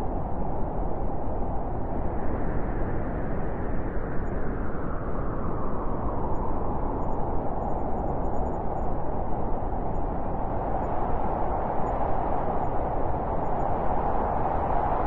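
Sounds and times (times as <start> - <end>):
blizzard wind blowing: 0.0 - 15.0.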